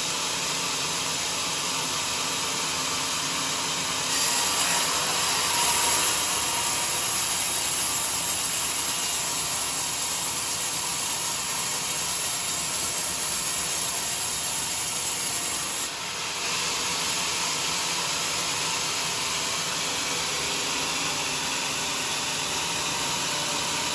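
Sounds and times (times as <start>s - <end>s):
saw blade cutting through log: 3.9s - 23.9s.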